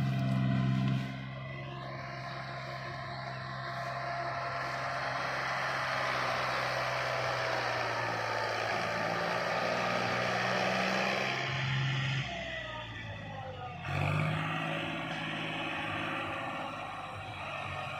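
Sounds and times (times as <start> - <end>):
tractor diesel engine under load: 0.0 - 17.9.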